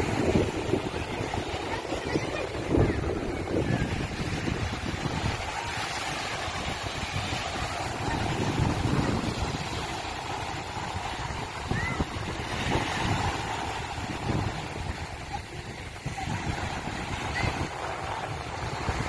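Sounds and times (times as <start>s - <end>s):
rushing outdoor noise: 0.0s - 19.0s
wind buffeting microphone: 0.0s - 19.0s.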